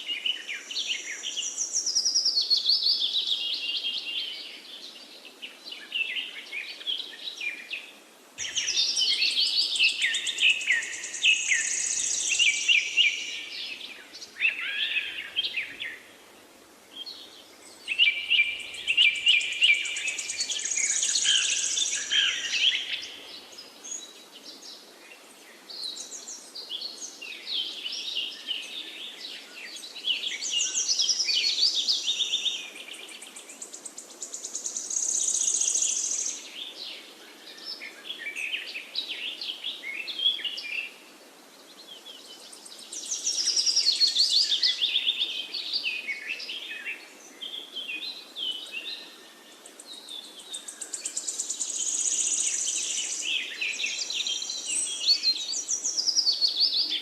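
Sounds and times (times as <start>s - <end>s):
faint steady hiss: 0.0s - 57.0s
songbirds chirping and trilling: 0.0s - 57.0s.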